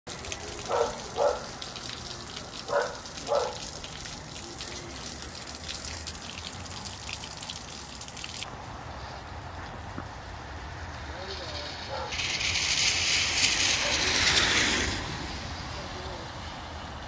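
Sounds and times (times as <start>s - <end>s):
rain falling and dripping: 0.0s - 17.0s.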